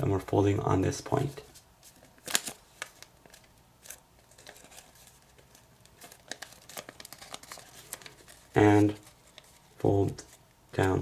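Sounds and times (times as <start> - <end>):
paper crinkling while folded: 1.1 - 11.0.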